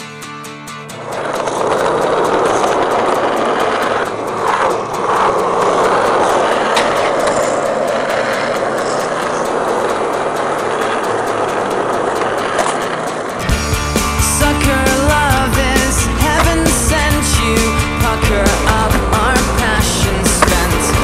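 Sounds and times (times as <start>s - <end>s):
skateboard wheels rolling on asphalt: 0.8s - 21.0s.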